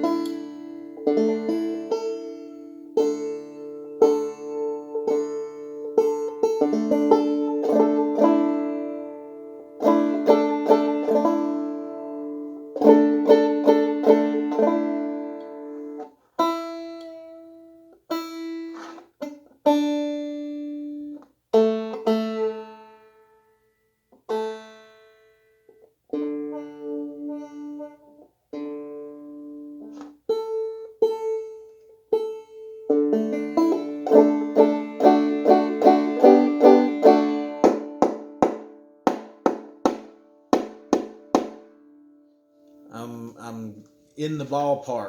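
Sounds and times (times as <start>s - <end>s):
banjo chords strummed: 0.0s - 23.3s, 24.1s - 45.0s
banjo strings plucked: 0.0s - 23.3s, 24.1s - 44.7s.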